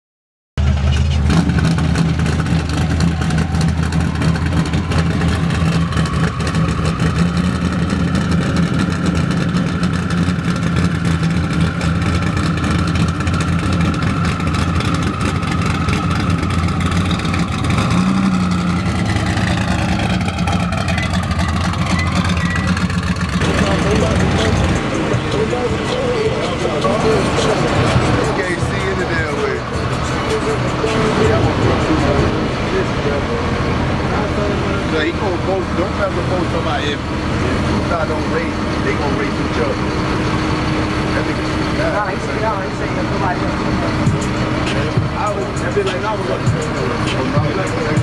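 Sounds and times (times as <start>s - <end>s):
car engine idling: 0.6s - 48.0s.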